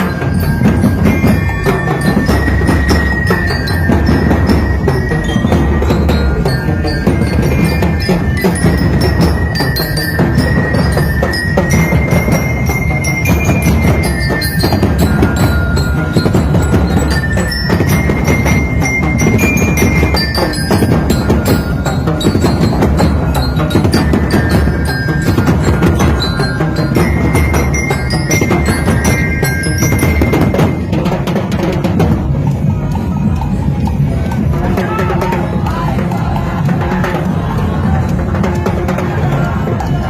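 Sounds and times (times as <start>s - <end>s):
bell lyre melody: 0.0s - 34.6s
dense continuous drumming: 0.0s - 40.0s.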